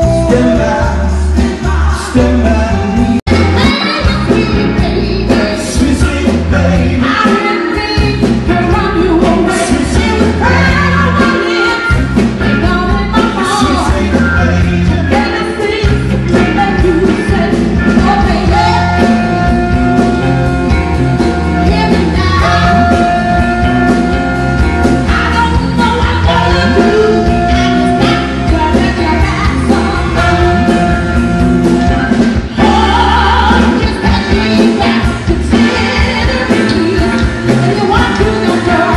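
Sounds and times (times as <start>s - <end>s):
person singing: 0.0s - 38.9s
rock and roll band playing: 0.0s - 38.9s.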